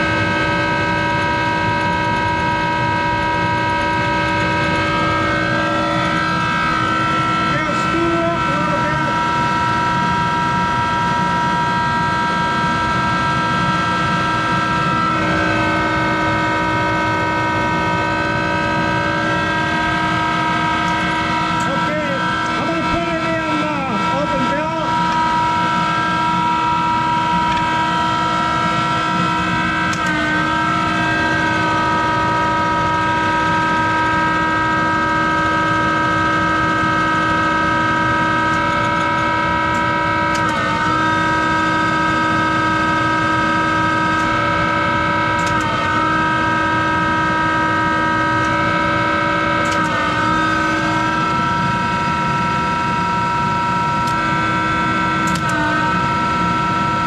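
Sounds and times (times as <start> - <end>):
lathe motor humming: 0.0 - 57.0.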